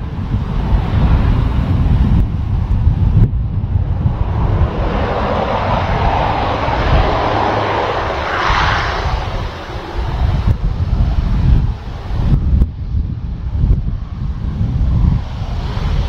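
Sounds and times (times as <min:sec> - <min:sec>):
turboprop engines and propellers: 0:00.0 - 0:16.0
wind rumble on microphone: 0:00.0 - 0:16.0.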